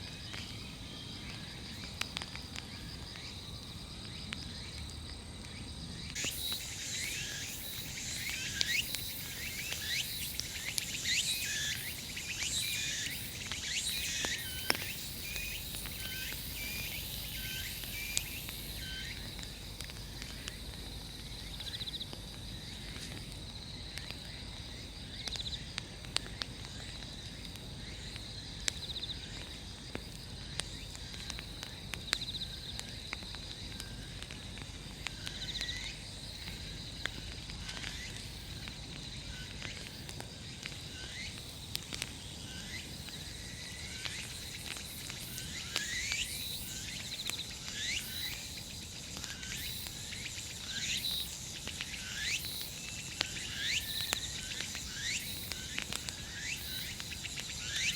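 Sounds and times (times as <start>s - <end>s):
bonfire wood popping: 0.0s - 57.9s
insects trilling: 0.0s - 57.9s.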